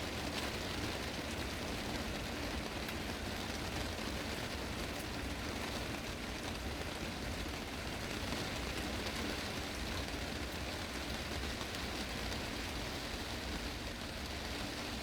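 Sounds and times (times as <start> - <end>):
heavy rain on glass roof: 0.0 - 15.0.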